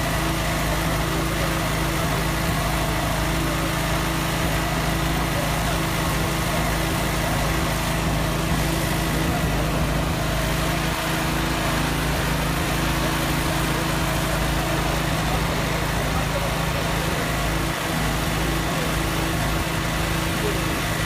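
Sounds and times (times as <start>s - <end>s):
small engine droning: 0.0s - 21.0s.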